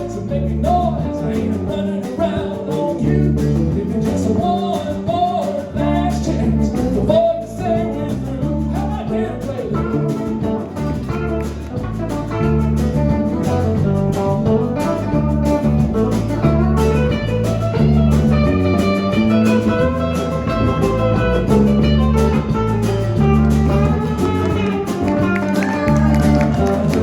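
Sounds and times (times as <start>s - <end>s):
country band playing: 0.0s - 27.0s
lead guitar: 0.0s - 27.0s.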